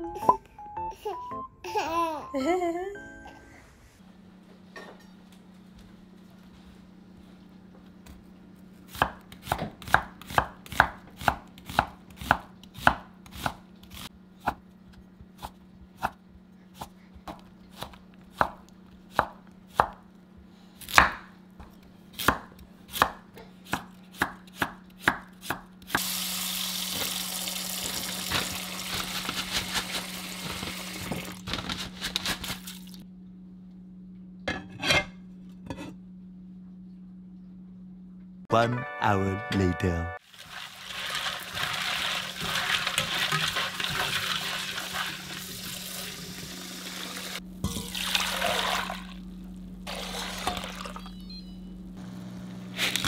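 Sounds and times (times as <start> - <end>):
low steady hum: 0.0 - 25.0, 25.7 - 53.0.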